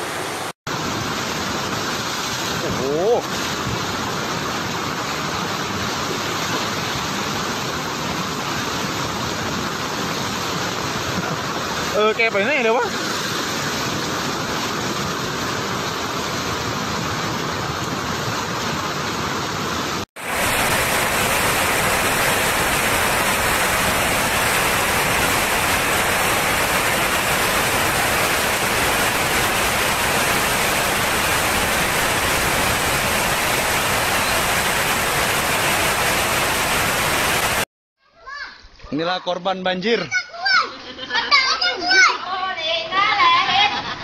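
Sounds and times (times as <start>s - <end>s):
flood river rushing: 0.0s - 37.7s.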